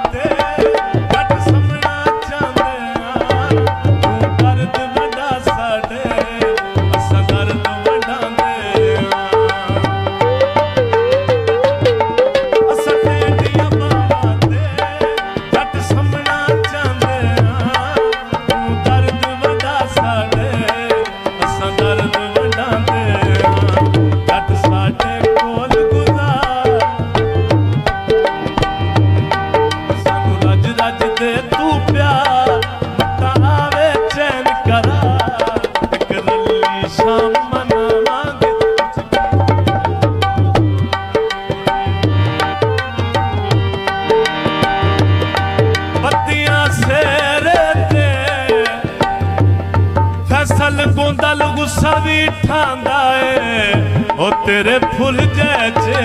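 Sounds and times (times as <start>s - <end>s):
folk melody instrument: 0.0s - 56.0s
hand drums rhythm: 0.0s - 56.0s.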